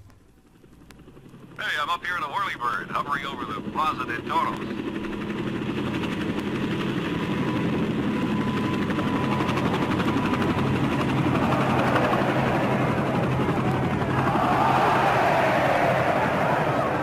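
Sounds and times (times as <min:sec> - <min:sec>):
large engine drone: 0:00.0 - 0:17.0.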